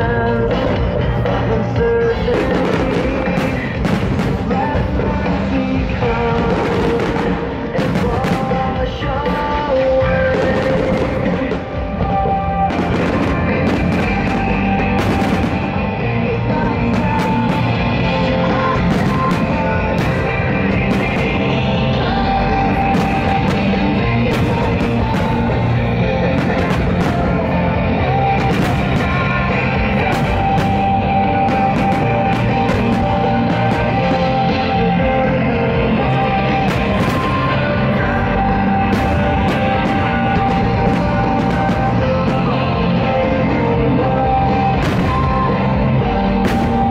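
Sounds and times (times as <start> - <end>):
fireworks cracking and banging: 0.0 - 46.9
loud rock music: 0.0 - 46.9.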